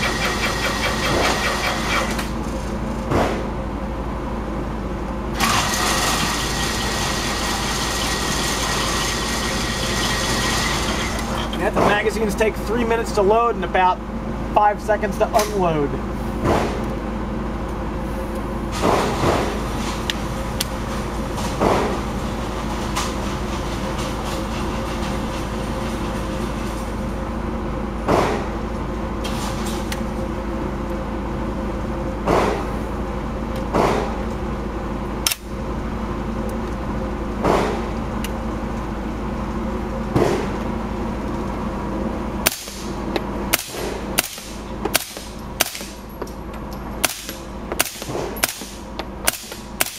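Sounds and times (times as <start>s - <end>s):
steady background hum: 0.0s - 49.9s.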